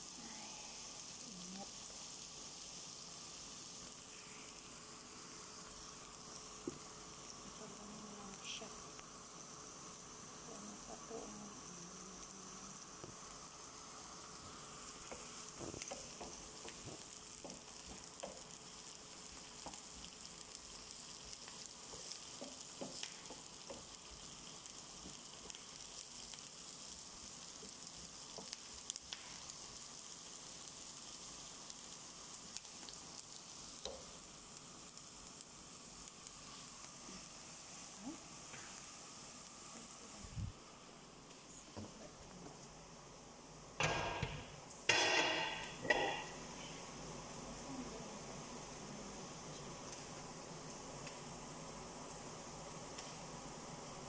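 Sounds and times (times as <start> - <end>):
onions sizzling in oil: 0.0 - 54.0.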